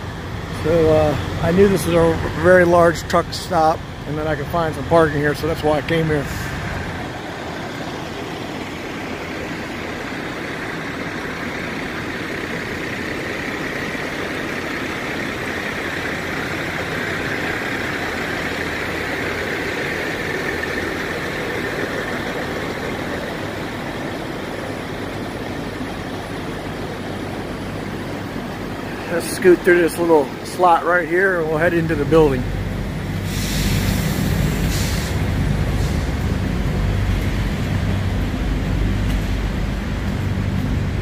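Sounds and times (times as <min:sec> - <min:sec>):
diesel truck engines idling: 0:00.0 - 0:41.0.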